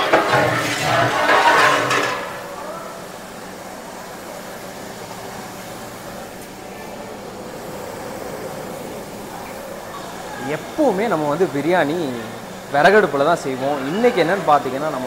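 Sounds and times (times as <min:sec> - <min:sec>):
faint voices: 0:00.0 - 0:15.0
gas burners hissing: 0:00.0 - 0:15.0.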